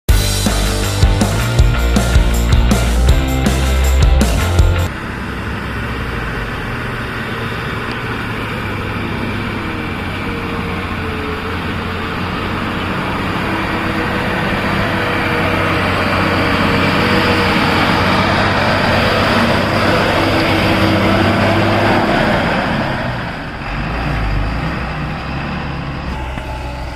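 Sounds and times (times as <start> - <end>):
truck engine humming: 0.1 - 26.9.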